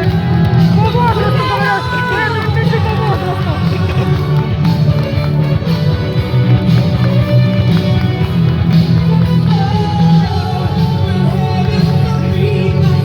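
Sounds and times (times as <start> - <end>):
loud music with steady beat: 0.0 - 13.0.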